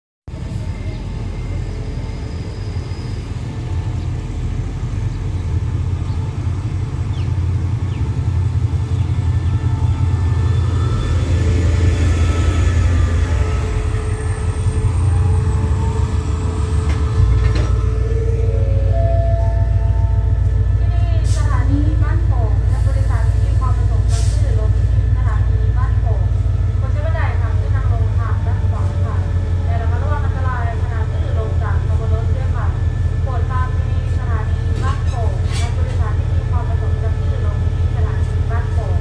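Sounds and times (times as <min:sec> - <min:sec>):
diesel locomotive engine rumble: 0:00.3 - 0:39.0.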